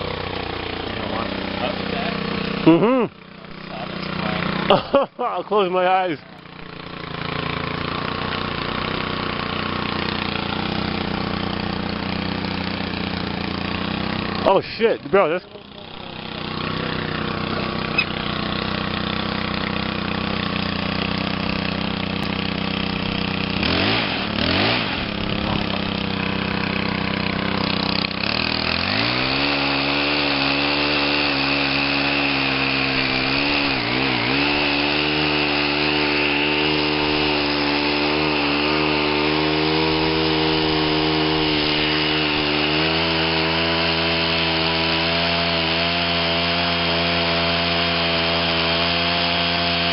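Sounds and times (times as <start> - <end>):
chainsaw running: 0.0 - 49.9.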